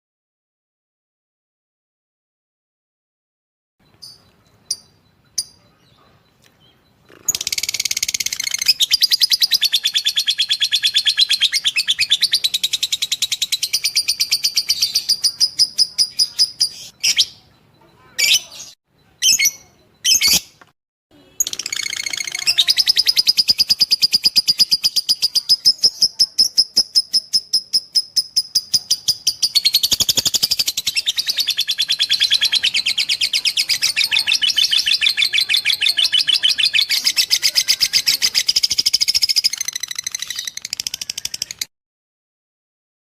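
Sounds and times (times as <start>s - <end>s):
lovebird chattering song: 3.9s - 20.6s, 21.3s - 41.7s.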